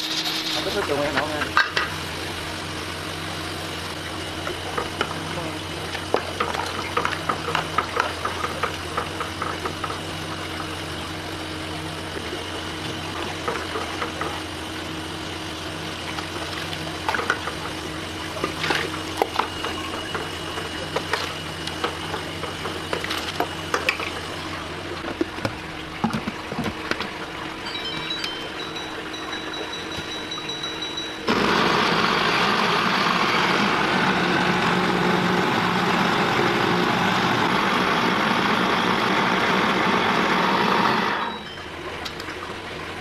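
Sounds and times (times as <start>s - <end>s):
steady mechanical hum: 0.0s - 43.0s.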